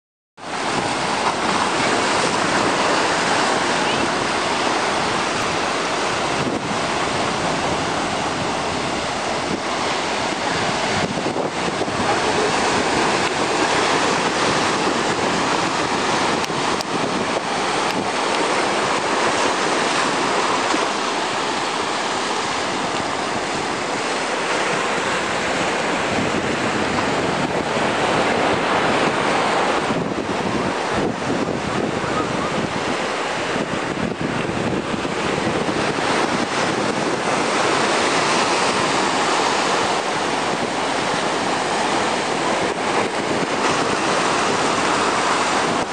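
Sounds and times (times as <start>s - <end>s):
surf breaking on rocks: 0.4s - 45.9s.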